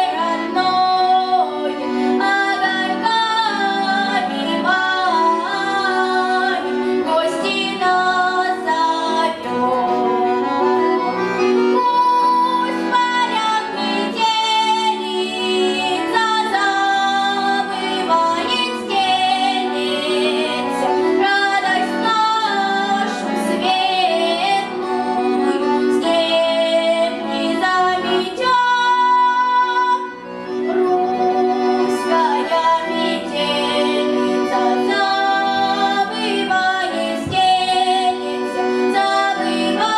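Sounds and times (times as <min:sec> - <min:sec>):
girl singing folk song: 0:00.0 - 0:10.6, 0:11.7 - 0:39.9
button accordion chords: 0:00.0 - 0:39.9.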